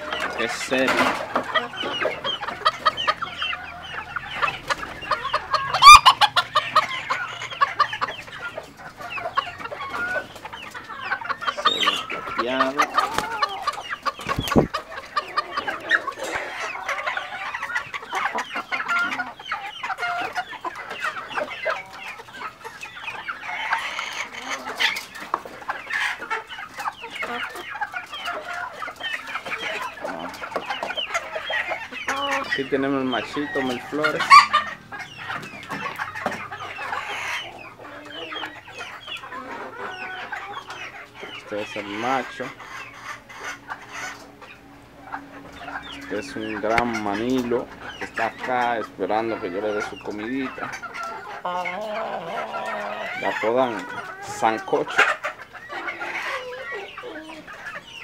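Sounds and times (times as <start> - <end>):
chickens clucking and squawking: 0.0 - 58.0.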